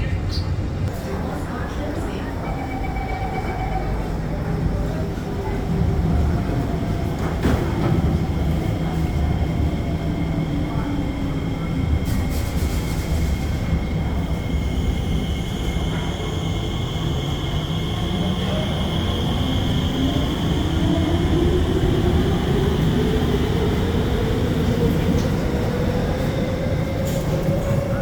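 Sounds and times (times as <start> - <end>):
train rail rumble: 3.4 - 28.0.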